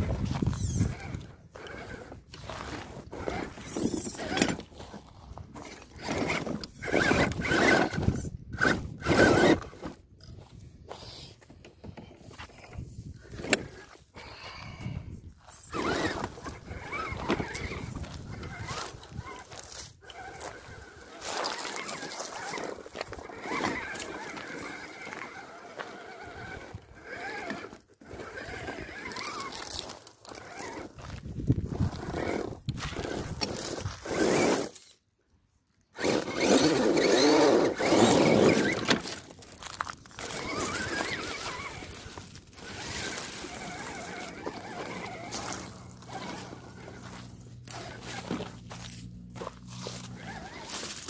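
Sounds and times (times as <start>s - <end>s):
electric motor and gears whining: 0.0s - 10.6s, 11.5s - 35.0s, 35.9s - 51.0s.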